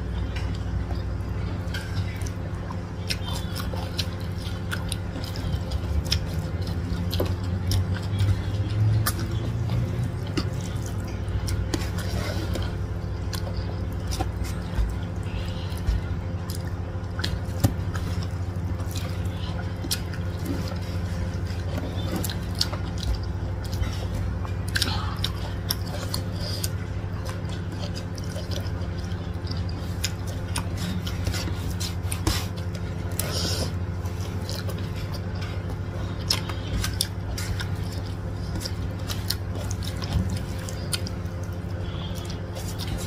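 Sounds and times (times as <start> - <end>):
chewing and mouth clicks: 0.0 - 43.0
low hum: 0.0 - 43.0.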